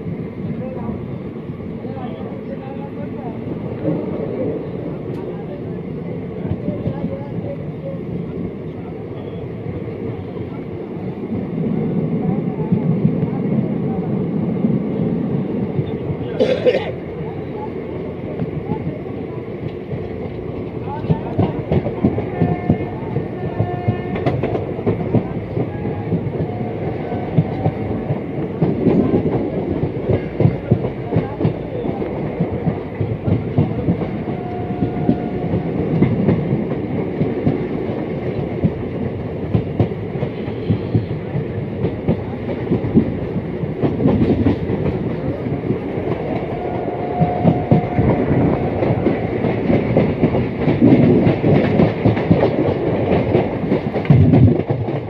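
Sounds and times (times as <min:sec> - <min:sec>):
train rumbling along track: 0:00.0 - 0:55.0.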